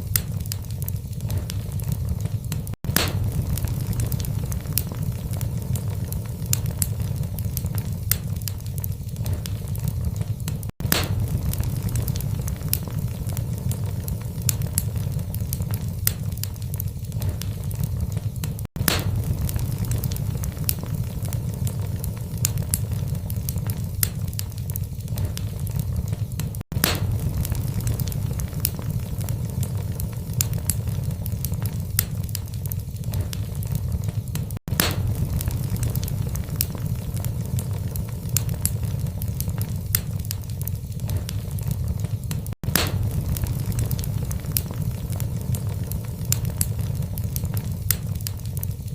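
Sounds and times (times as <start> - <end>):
logs crackling in fireplace: 0.0 - 48.9
low rumble of flames: 0.0 - 48.9
sharp fire pops: 0.0 - 48.9.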